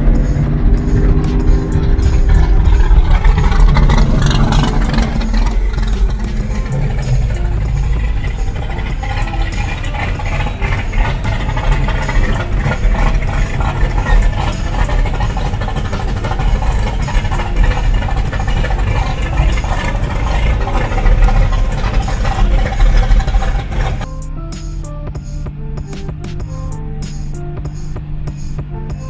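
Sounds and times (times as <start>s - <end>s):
car engines in slow traffic: 0.0s - 29.0s.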